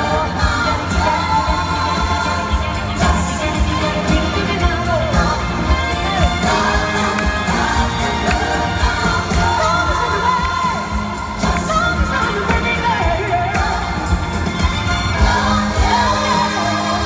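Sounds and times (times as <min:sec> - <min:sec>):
drums steady beat: 0:00.0 - 0:17.0
live pop band: 0:00.0 - 0:17.0.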